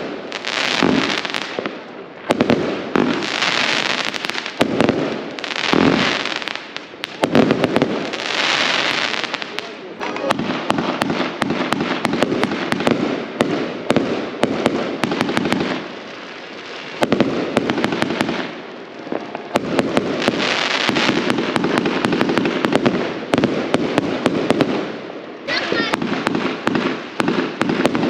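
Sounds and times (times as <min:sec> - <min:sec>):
continuous hiss: 0:00.0 - 0:28.0
fireworks bangs and crackling: 0:00.0 - 0:28.0.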